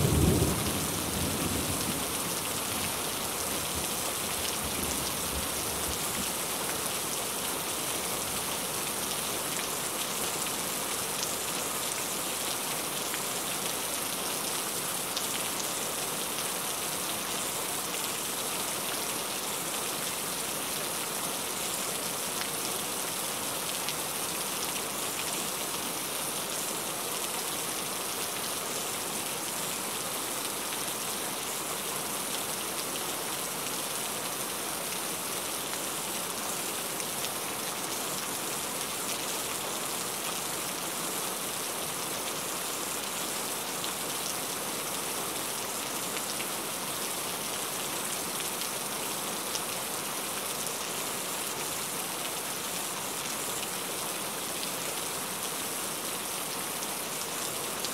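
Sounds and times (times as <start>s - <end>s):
heavy rain hiss: 0.0s - 57.9s.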